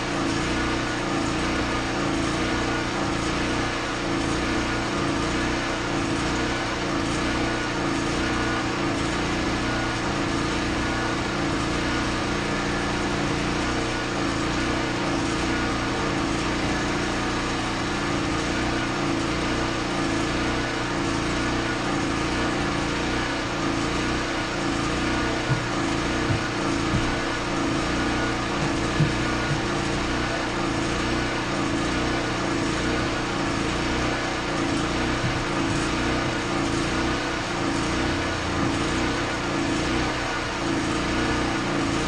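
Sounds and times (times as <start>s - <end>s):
small engine running: 0.0s - 42.0s.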